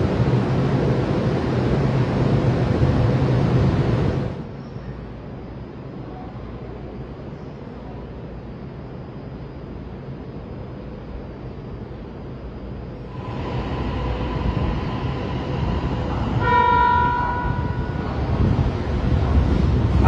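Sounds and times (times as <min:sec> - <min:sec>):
electric train rumbling on rails: 0:00.0 - 0:20.0.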